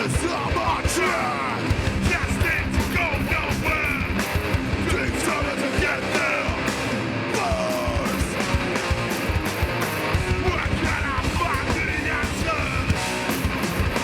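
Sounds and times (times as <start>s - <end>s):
heavy rock band playing: 0.0s - 14.0s.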